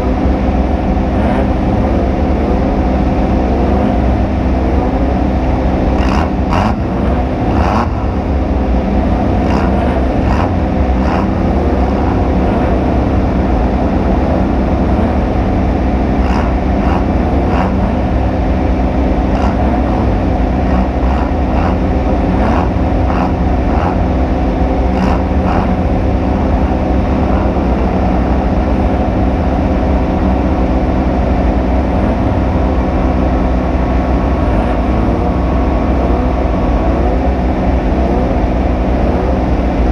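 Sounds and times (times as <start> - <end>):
loud engine running hard: 0.0 - 39.9.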